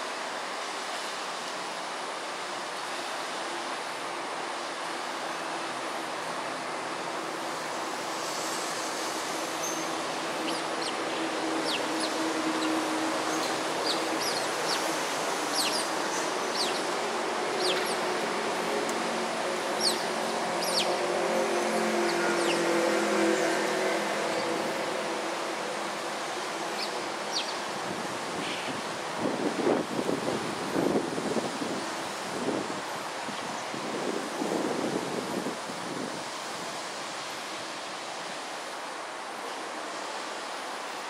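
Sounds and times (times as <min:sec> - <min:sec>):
distant city traffic hum: 0:00.0 - 0:41.0.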